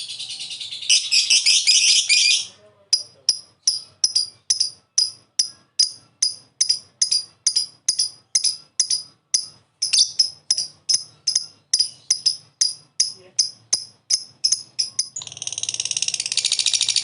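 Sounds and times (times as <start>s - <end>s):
lovebird chattering: 0.0s - 17.0s.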